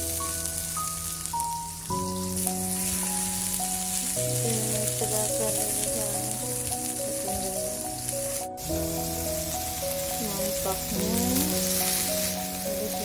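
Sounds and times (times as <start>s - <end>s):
background music: 0.0s - 13.0s
eggplants sizzling on a griddle: 0.0s - 13.0s.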